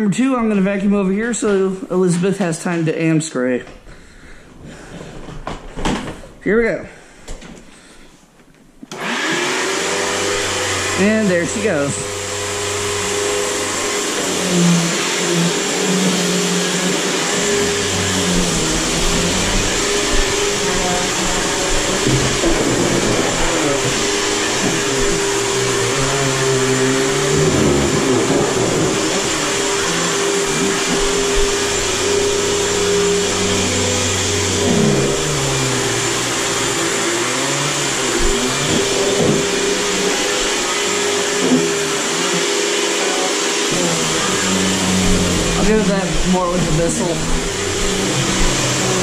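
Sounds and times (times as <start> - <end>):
vacuum cleaner humming: 8.8 - 49.0.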